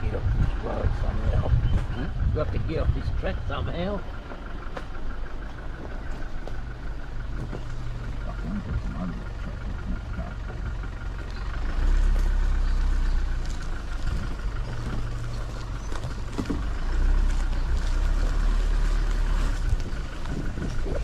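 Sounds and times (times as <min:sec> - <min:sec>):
vehicle engine low rumble: 0:00.0 - 0:21.0
vehicle knocks and rattles: 0:00.0 - 0:21.0.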